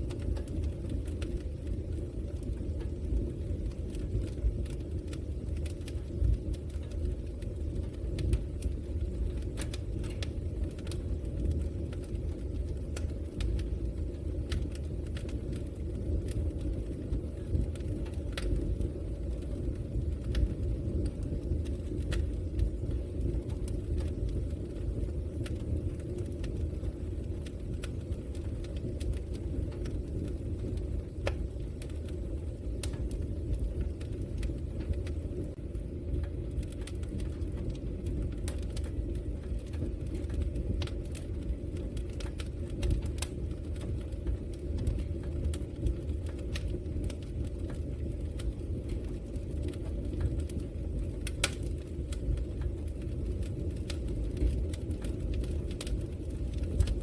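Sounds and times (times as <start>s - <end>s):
burning wood crackling: 0.0s - 57.0s
fire rumbling: 0.0s - 57.0s.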